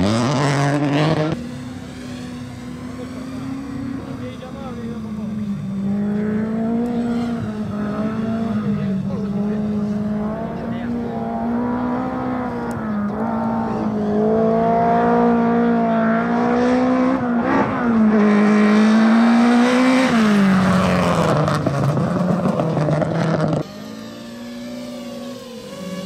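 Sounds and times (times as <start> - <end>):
rally car engine revving hard: 0.0 - 26.0.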